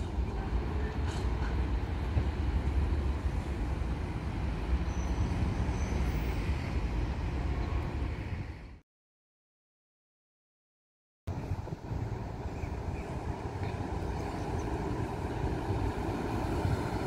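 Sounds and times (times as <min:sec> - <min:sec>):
freight train rolling past: 0:00.0 - 0:08.8, 0:11.3 - 0:17.0.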